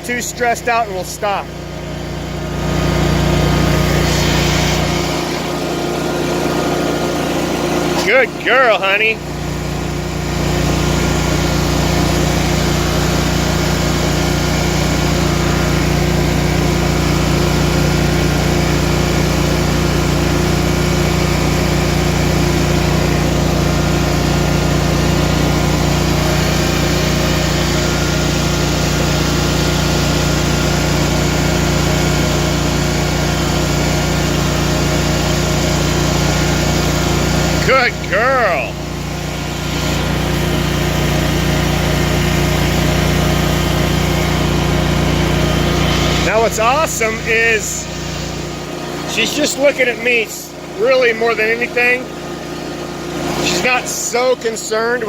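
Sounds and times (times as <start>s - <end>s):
riding lawn mower engine running: 0.0s - 55.0s.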